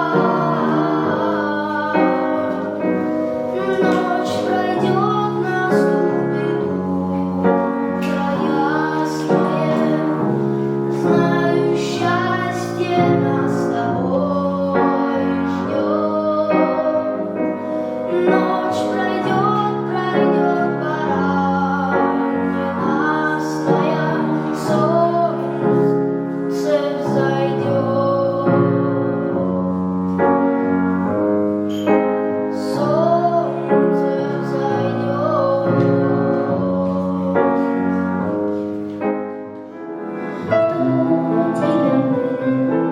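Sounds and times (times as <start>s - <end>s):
person singing with vibrato: 0.0s - 42.9s
piano: 0.0s - 42.9s.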